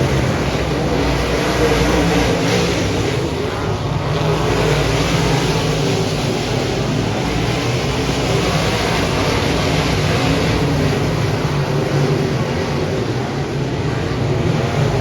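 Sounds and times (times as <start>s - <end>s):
broad rush of noise: 0.0s - 15.0s.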